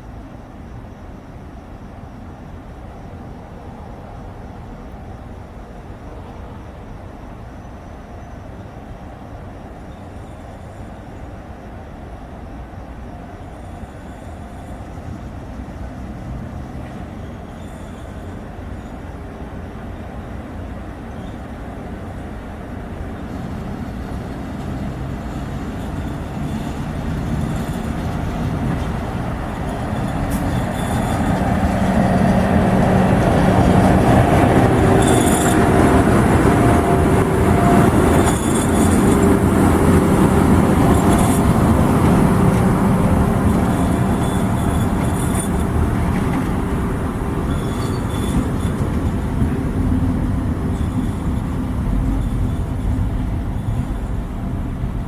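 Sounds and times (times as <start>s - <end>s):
train passing: 0.0s - 55.0s.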